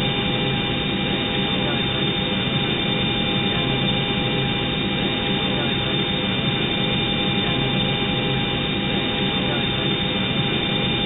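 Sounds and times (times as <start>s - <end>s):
aircraft cockpit hiss and hum: 0.0s - 11.0s
faint constant tones: 0.0s - 11.0s.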